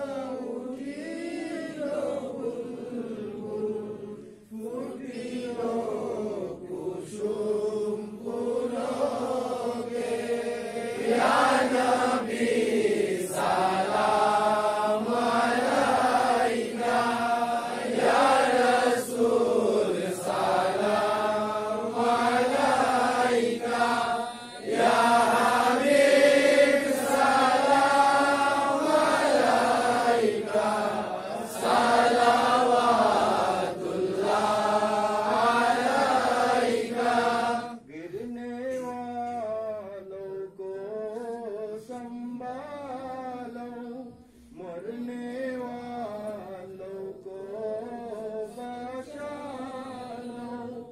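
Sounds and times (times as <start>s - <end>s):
voices chanting devotional verses: 0.0s - 50.9s.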